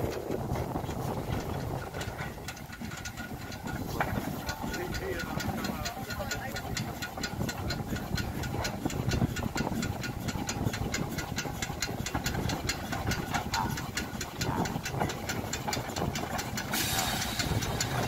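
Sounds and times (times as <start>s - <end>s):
low rumble of wheels: 0.0s - 18.0s
steam locomotive exhaust beats: 0.0s - 18.0s.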